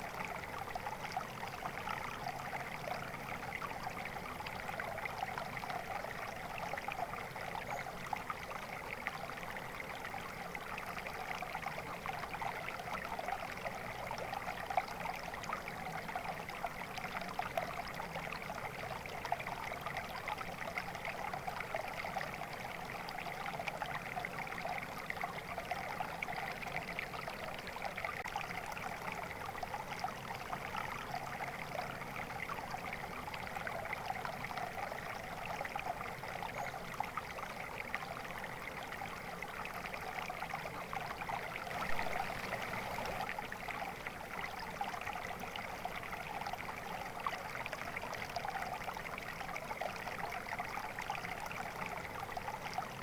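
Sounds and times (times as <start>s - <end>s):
brook babbling: 0.0s - 53.0s.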